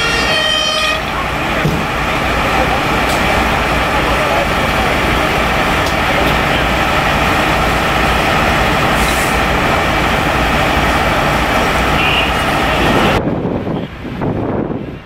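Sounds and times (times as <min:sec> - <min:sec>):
diesel engines idling: 0:00.0 - 0:15.0.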